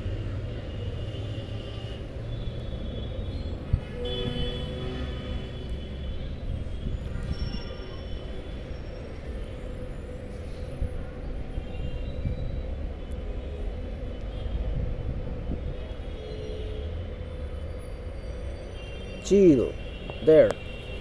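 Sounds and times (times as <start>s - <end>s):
distant city traffic rumble: 0.0s - 21.0s.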